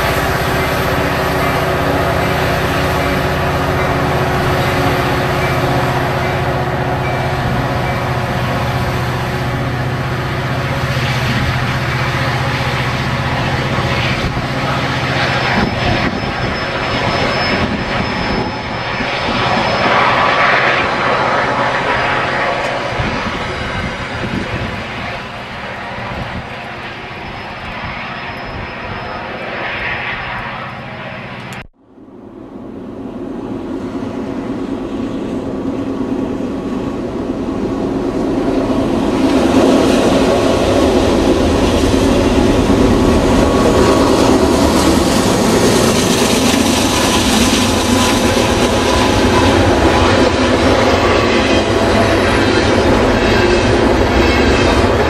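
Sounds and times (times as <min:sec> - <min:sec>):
commuter train running past: 0:00.0 - 0:55.0
freight train rolling by: 0:00.0 - 0:55.0.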